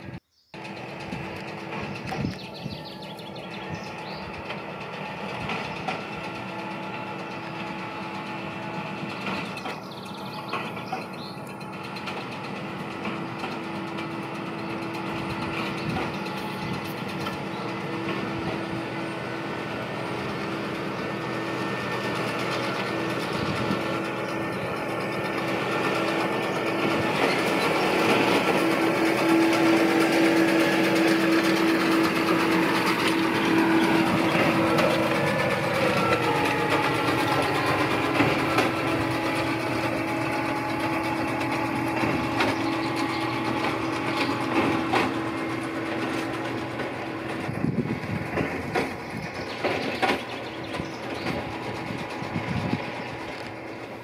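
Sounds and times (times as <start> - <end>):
machine humming: 0.0 - 54.0.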